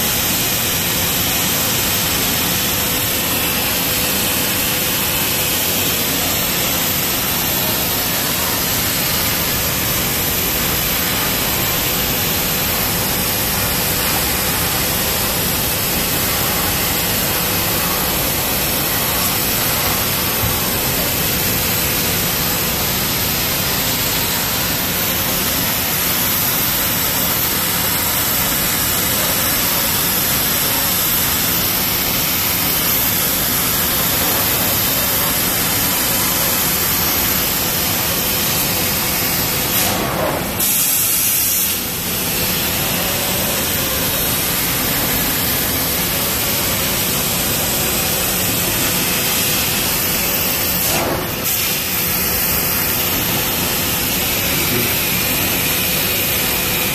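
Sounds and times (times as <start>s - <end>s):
laser cutter hiss: 0.0s - 56.9s.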